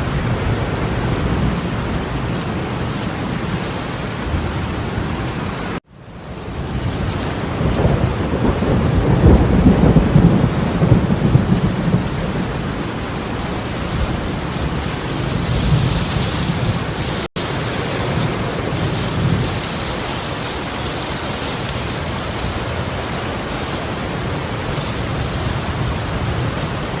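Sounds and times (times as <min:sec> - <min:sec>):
torrential rain hissing: 0:00.0 - 0:27.0.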